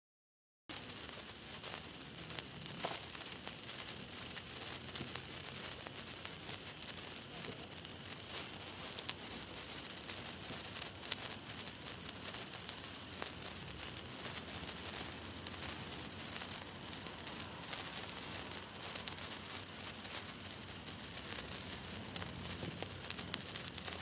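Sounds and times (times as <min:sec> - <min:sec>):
sparkler fizzing and crackling: 0:00.7 - 0:24.0.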